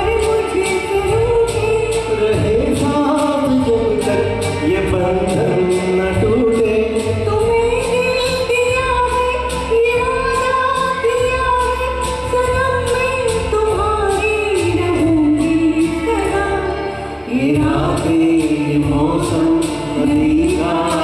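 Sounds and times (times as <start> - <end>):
backing music with steady beat: 0.0 - 21.0
woman and man singing duet: 0.0 - 21.0.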